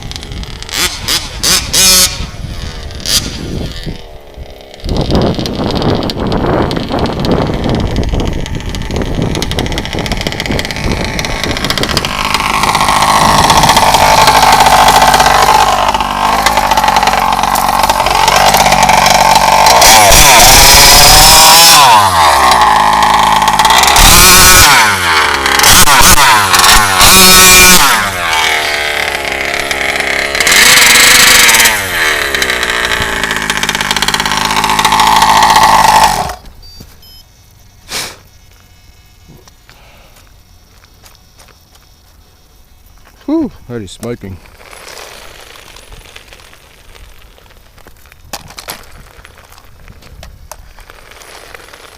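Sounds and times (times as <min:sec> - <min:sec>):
two-stroke engine revving: 0:00.0 - 0:36.6, 0:43.8 - 0:51.9.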